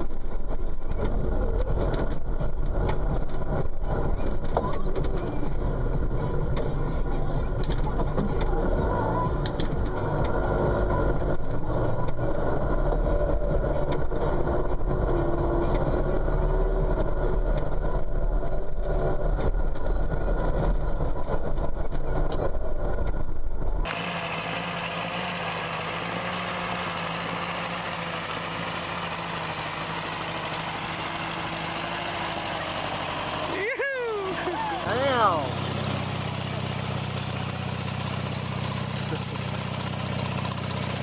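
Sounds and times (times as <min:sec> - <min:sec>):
tractor engine running: 0:00.0 - 0:41.0
vintage tractor engine running: 0:00.0 - 0:41.0.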